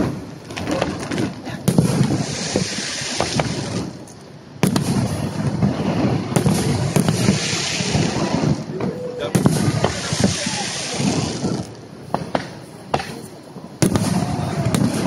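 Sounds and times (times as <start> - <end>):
firework bangs: 0.0 - 15.0
firework crackling: 0.0 - 15.0.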